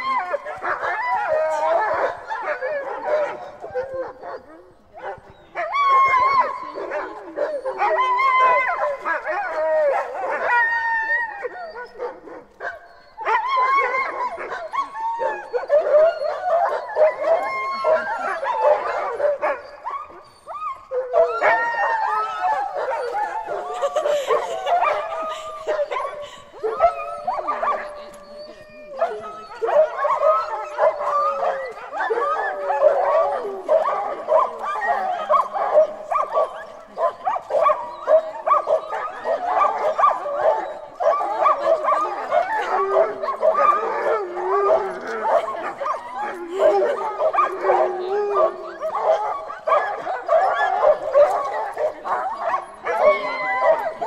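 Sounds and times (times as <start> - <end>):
sled dogs howling and barking: 0.0 - 54.0.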